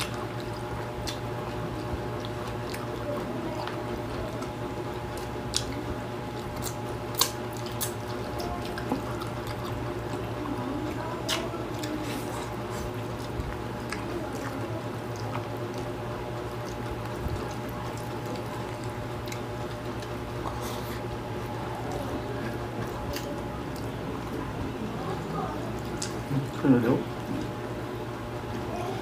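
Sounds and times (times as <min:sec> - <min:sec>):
lip smacks: 0:00.0 - 0:03.0, 0:03.6 - 0:23.9
wet chewing: 0:00.0 - 0:28.6
steady low hum: 0:00.0 - 0:29.0.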